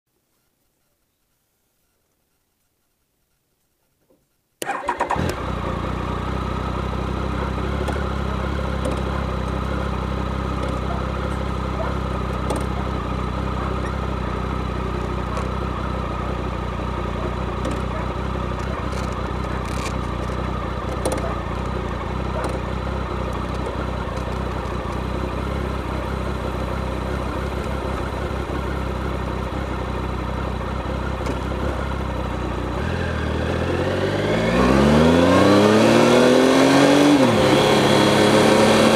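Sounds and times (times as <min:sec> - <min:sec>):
motorcycle engine starting and running: 0:04.6 - 0:38.9.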